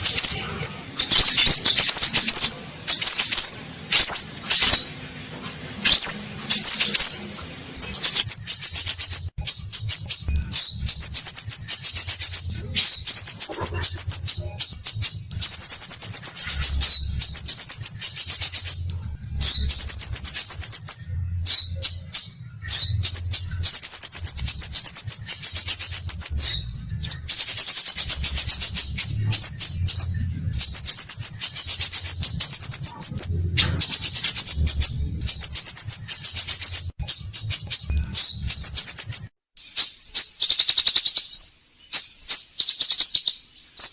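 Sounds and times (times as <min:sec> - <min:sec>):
bird singing fast high chirps: 0:00.0 - 0:05.0, 0:05.9 - 0:43.9
faint low hum: 0:00.0 - 0:40.8.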